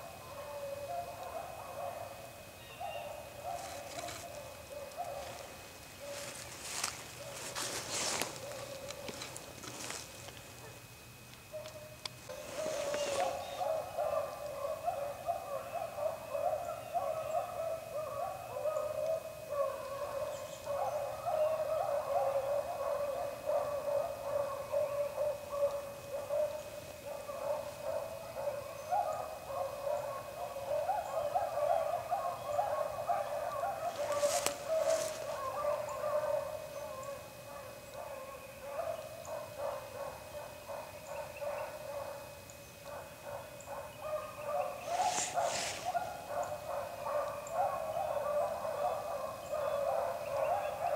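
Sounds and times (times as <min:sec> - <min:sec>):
hounds baying in chorus: 0:00.0 - 0:50.9.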